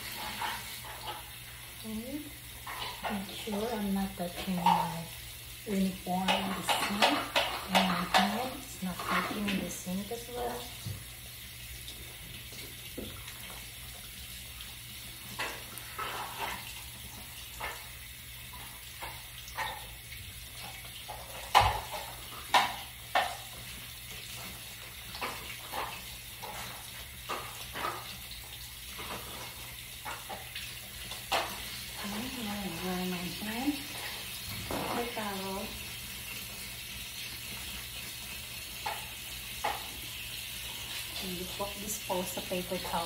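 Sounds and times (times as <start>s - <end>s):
faucet water running into sink: 0.0s - 43.0s.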